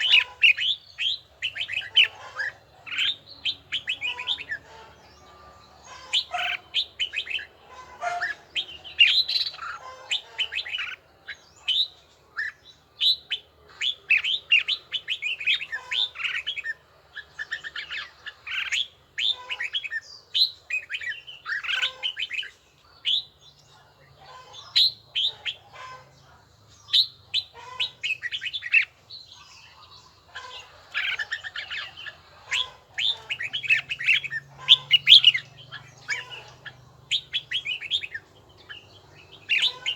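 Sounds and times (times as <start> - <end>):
bird singing chirped phrases: 0.0 - 39.9.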